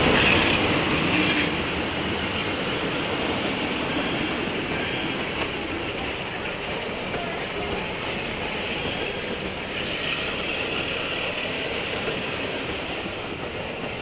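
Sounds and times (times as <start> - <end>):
diesel locomotive engine rumble: 0.0 - 14.0
train wheels clicking on rails: 0.0 - 14.0.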